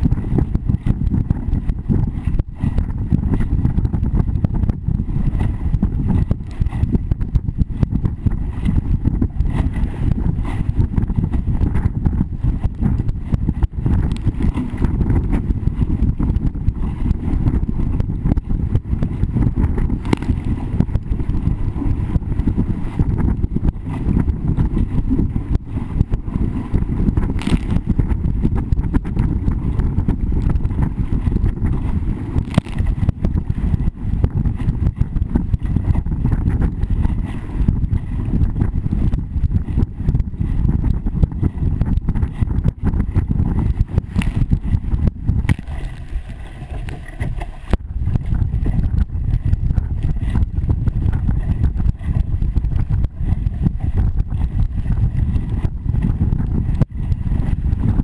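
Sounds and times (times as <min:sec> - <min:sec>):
hull slapping choppy water: 0:00.0 - 0:58.0
wind buffeting microphone: 0:00.0 - 0:58.0.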